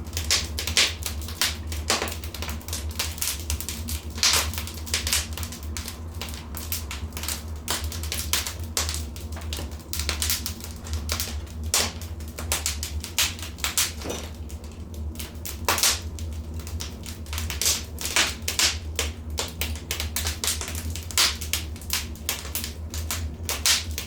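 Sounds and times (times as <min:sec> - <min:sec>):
low steady hum: 0:00.0 - 0:24.0
wood fire crackling and popping: 0:00.0 - 0:24.0.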